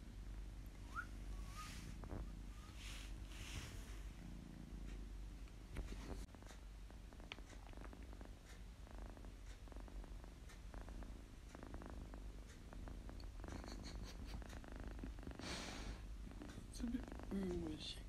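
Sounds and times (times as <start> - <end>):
kitten purring: 0.0 - 18.0.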